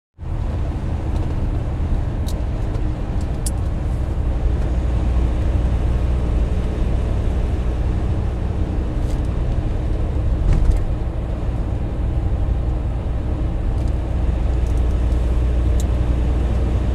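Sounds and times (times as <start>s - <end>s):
tyre and engine drone: 0.2s - 16.9s.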